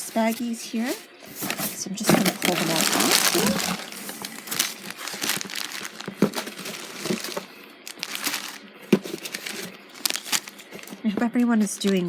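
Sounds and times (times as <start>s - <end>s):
plastic baggies crinkling: 0.0s - 12.0s.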